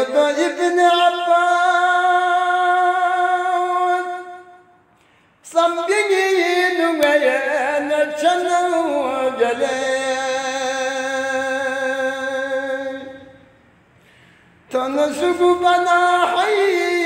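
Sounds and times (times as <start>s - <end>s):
man singing unaccompanied: 0.0s - 4.8s, 5.4s - 13.5s, 14.7s - 17.0s.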